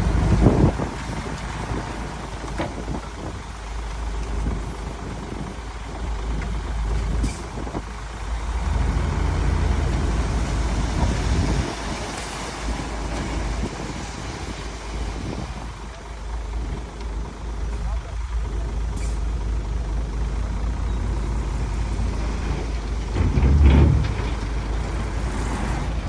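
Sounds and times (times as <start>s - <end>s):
diesel machinery rumbling: 0.0s - 26.0s.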